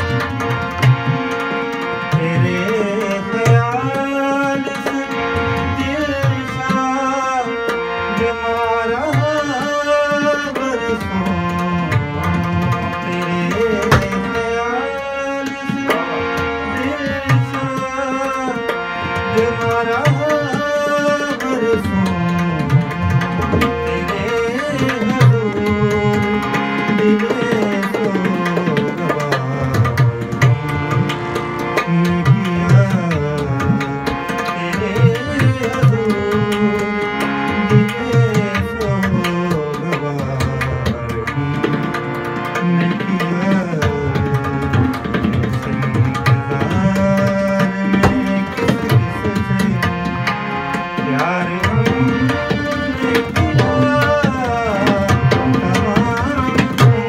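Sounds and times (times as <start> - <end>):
harmonium chords and melody: 0.0 - 57.0
tabla rhythm: 0.0 - 57.0.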